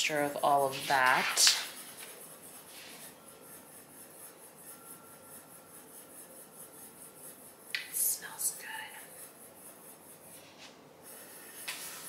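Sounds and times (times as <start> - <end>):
faint steady high hum: 0.0 - 12.0.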